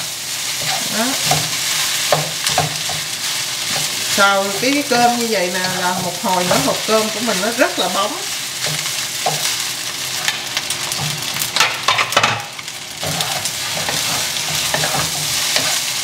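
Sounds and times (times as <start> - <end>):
rice and egg sizzling in a pan: 0.0 - 16.0
spatula scraping a pan: 0.5 - 12.4, 13.0 - 16.0.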